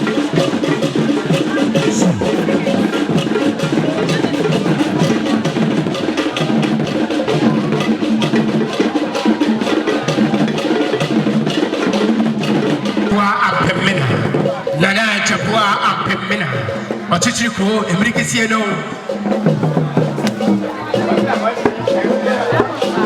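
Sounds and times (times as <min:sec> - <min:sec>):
drum ensemble playing: 0:00.0 - 0:23.0.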